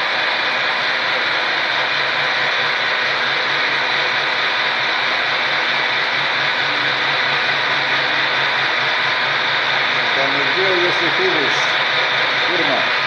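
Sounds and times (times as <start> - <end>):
faint motor hum: 0.0 - 13.0
milling machine cutting metal: 0.2 - 13.0.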